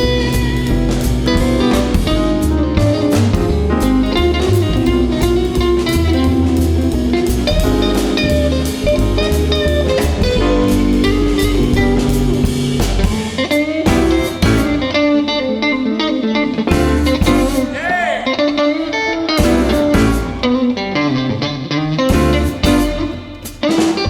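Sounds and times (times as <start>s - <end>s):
electric bass: 0.0s - 15.2s, 16.4s - 17.8s, 19.4s - 23.2s
drum kit: 0.0s - 24.0s
jazz guitar: 0.0s - 24.0s.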